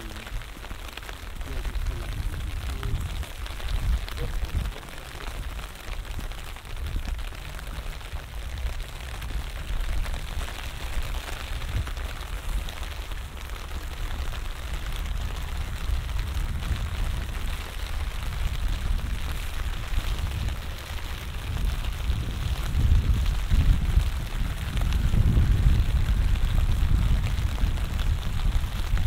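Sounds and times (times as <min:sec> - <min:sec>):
light rain drops ticking: 0:00.0 - 0:29.0
wind rumble on microphone: 0:00.0 - 0:29.0.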